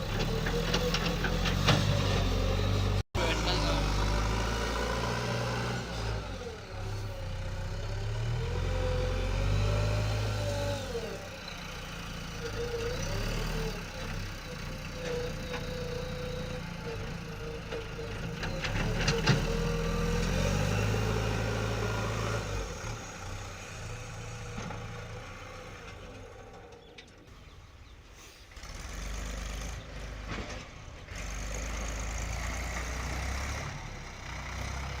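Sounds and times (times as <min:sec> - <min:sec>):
diesel engines revving: 0:00.0 - 0:35.0.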